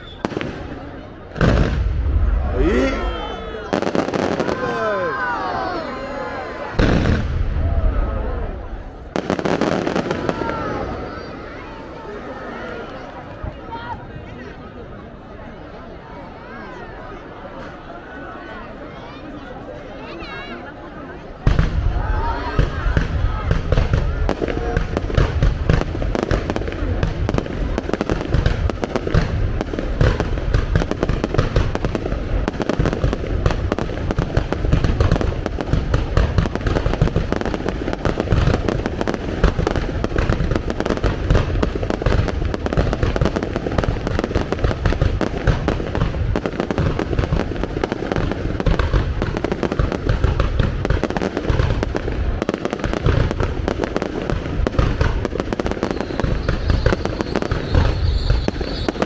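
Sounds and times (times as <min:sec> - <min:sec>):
fireworks booming: 0:00.0 - 0:12.1, 0:21.4 - 0:59.0.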